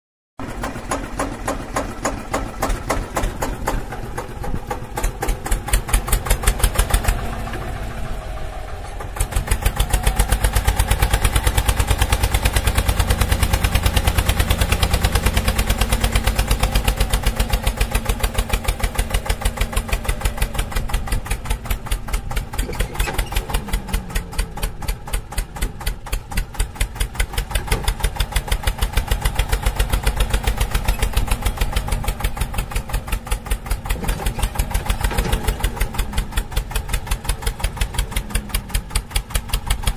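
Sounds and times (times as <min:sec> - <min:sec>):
engine chugging: 0:00.4 - 0:39.9.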